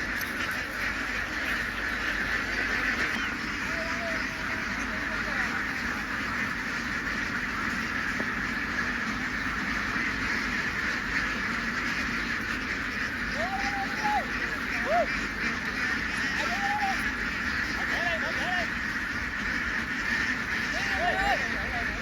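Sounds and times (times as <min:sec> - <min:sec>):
flock of ducks quacking: 0:00.0 - 0:22.0.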